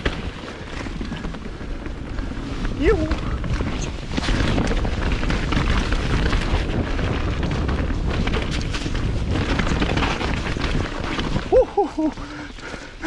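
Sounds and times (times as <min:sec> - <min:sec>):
bike knocks and rattles: 0:00.0 - 0:13.0
tyres rushing on dirt trail: 0:00.0 - 0:13.0
wind buffeting microphone: 0:00.0 - 0:13.0.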